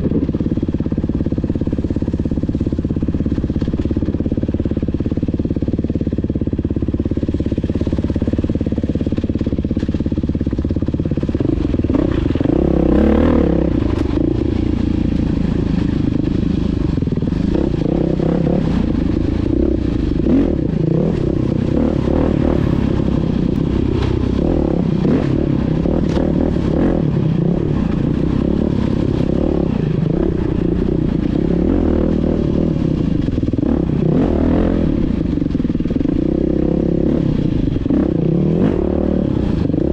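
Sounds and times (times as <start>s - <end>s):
dirt bike engine revving: 7.4s - 39.9s.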